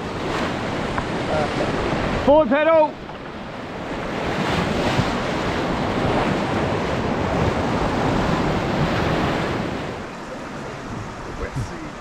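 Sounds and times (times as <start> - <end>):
whitewater rushing: 0.0 - 12.0
wind on microphone: 0.0 - 12.0.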